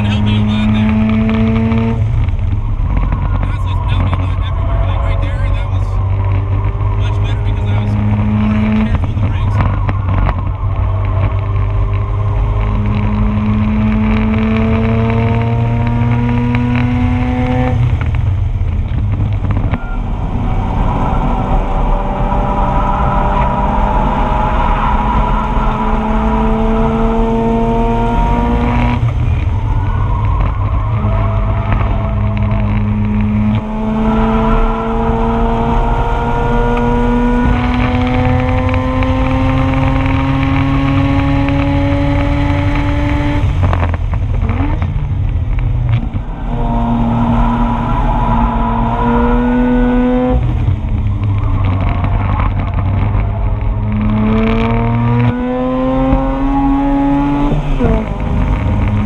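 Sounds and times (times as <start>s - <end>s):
rotary engine at full throttle: 0.0s - 59.0s.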